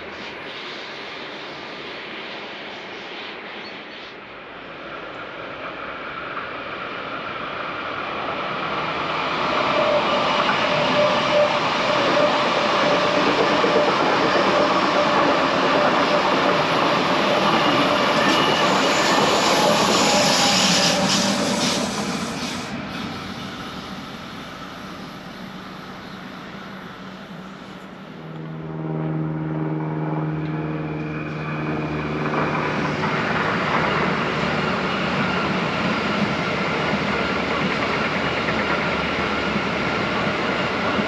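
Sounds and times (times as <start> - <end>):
train passing on rails: 0.0 - 41.0.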